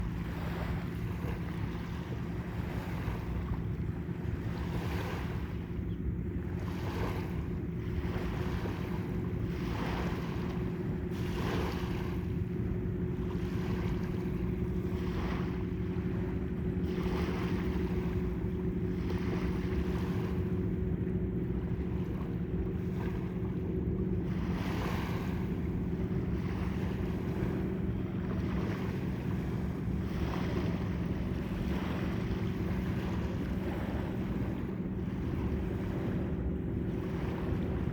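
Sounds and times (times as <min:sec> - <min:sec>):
low engine hum: 0:00.0 - 0:37.9.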